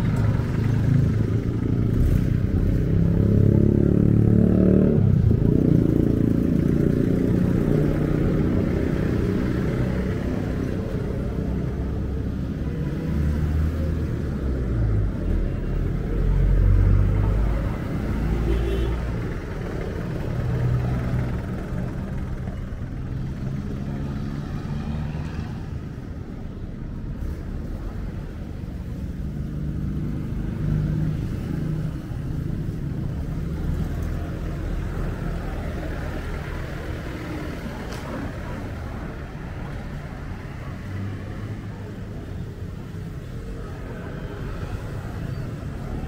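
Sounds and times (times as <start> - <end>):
street traffic engines rumbling: 0.0 - 46.0.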